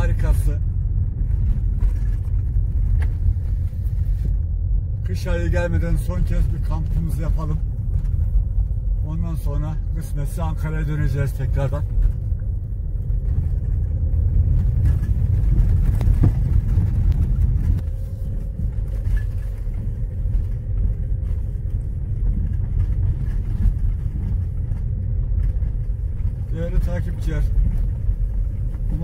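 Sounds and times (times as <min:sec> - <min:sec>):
car driving on gravel: 0:00.0 - 0:29.0.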